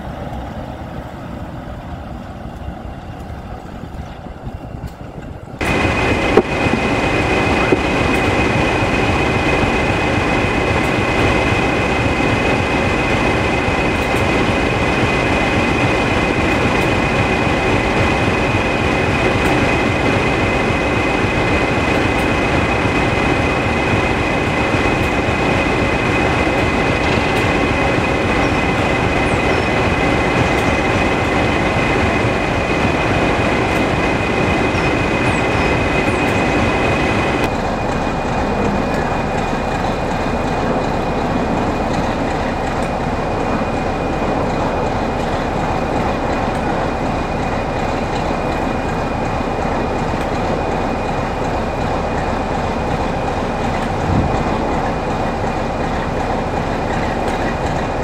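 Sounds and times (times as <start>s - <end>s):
diesel locomotive engine running: 0.0s - 58.0s
diesel train sound: 0.0s - 58.0s.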